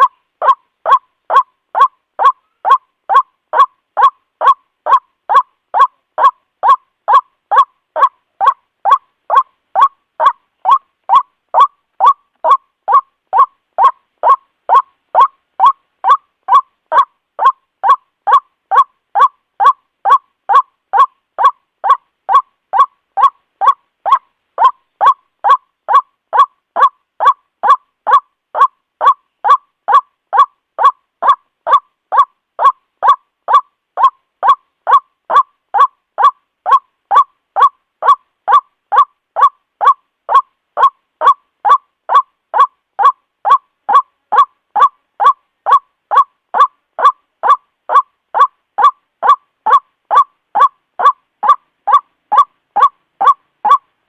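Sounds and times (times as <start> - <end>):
waterhen hoarse kwak calls: 0.0 - 53.9.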